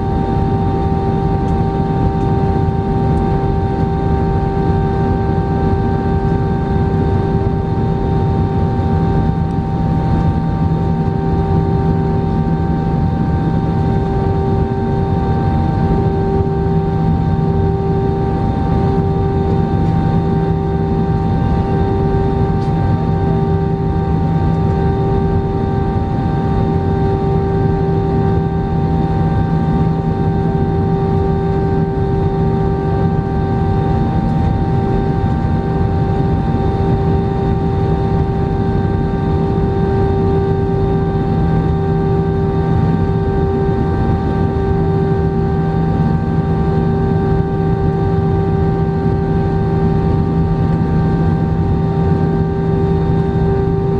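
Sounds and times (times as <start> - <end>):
jet engines rumbling in cabin: 0.0 - 53.9.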